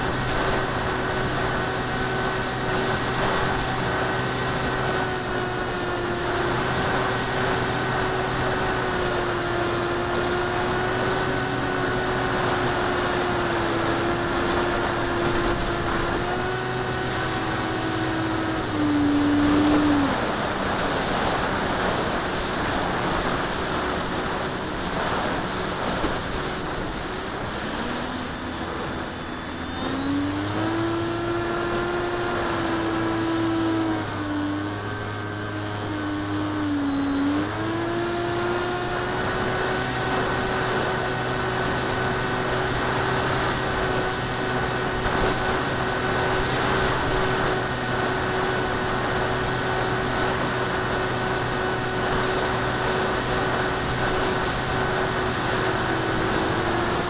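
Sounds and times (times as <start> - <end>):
model plane motor whine: 0.0 - 57.0.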